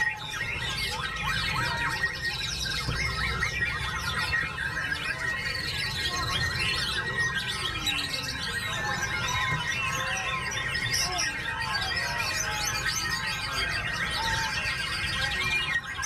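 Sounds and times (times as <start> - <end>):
birds singing: 0.0 - 16.0.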